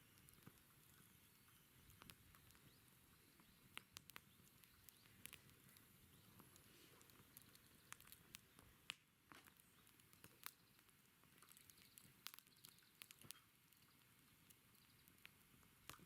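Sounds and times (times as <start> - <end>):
campfire crackling faintly: 0.0 - 16.0.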